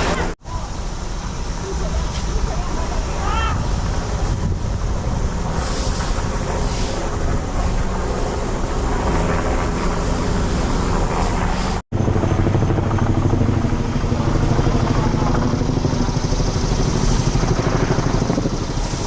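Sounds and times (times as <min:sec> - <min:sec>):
engine running with rumble: 0:00.0 - 0:19.0.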